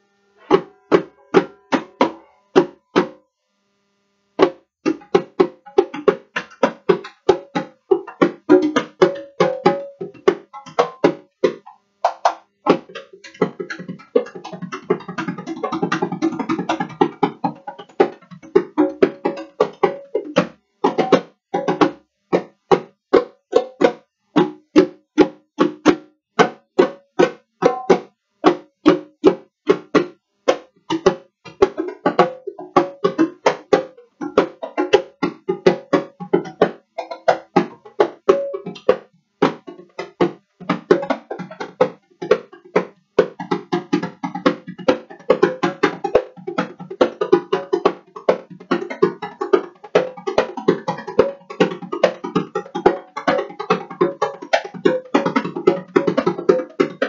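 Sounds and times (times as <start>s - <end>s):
hand drums playing: 0.4s - 3.2s, 4.4s - 57.0s.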